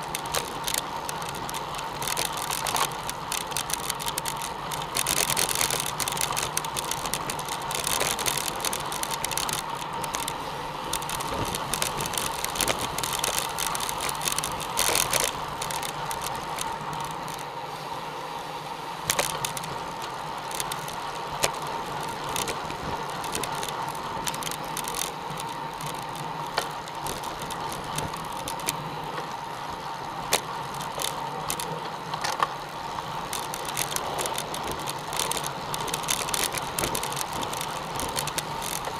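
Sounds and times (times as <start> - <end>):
sharp bike clicks: 0.0 - 17.5, 19.0 - 38.9
tyre and wind noise: 0.0 - 18.0, 18.9 - 38.9.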